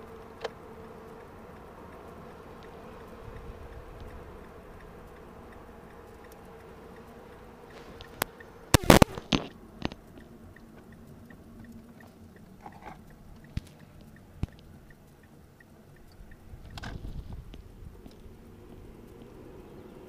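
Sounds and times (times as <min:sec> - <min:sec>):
muffled car running noise: 0:00.0 - 0:20.0.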